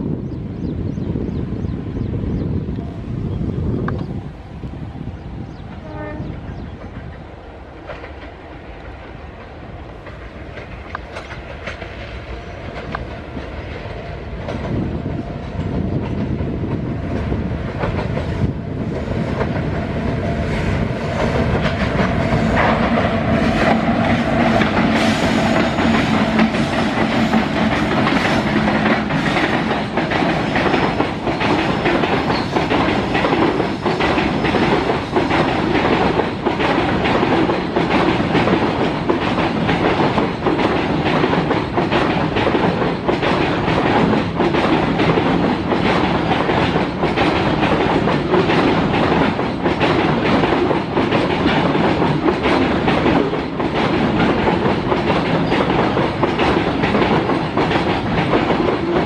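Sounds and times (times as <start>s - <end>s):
freight train rolling past: 0.0s - 59.0s
wheels clicking over rail joints: 6.5s - 18.4s, 21.1s - 59.0s.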